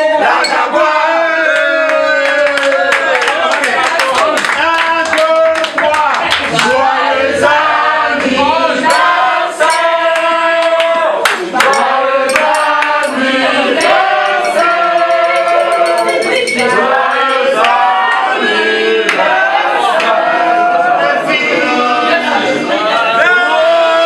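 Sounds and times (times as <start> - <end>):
group of voices singing: 0.0 - 3.5, 4.1 - 24.0.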